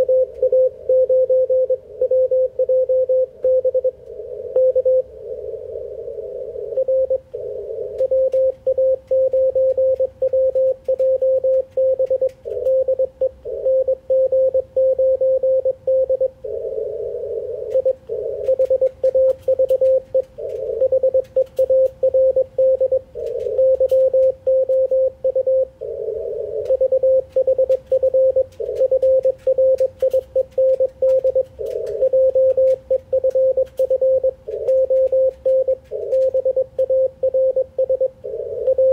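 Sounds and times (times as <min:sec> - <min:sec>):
morse code tone: 0:00.0 - 0:05.1, 0:06.6 - 0:16.4, 0:17.7 - 0:25.7, 0:26.6 - 0:38.9
static crackles: 0:00.0 - 0:38.9.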